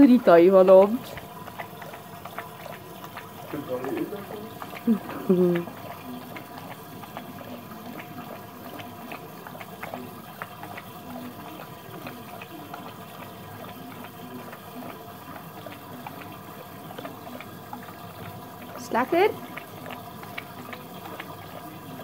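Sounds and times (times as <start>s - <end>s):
dog lapping from metal bowl: 0.0s - 22.0s.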